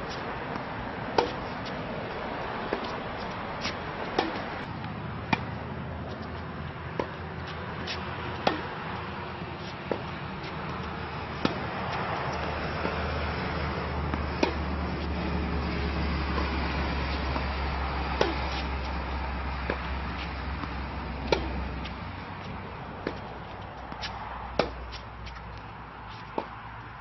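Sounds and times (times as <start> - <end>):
tennis ball hitting racket and court: 0.0 - 27.0.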